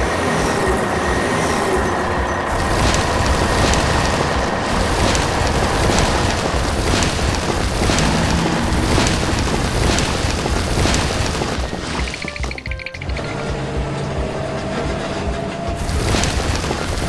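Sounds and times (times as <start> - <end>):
gravelly crumbling rumble: 0.0 - 12.7, 13.3 - 17.0.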